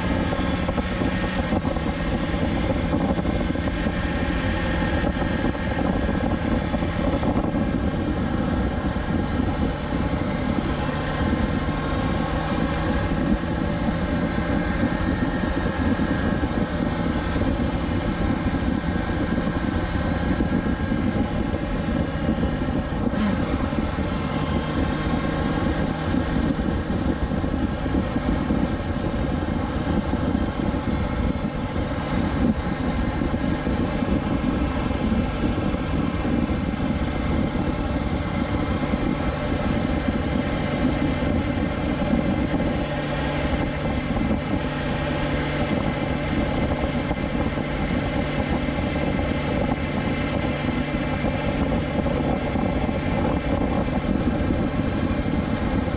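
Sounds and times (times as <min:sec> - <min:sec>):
motorcycle engine cruising: 0:00.0 - 0:55.9
wind rushing: 0:00.0 - 0:55.9.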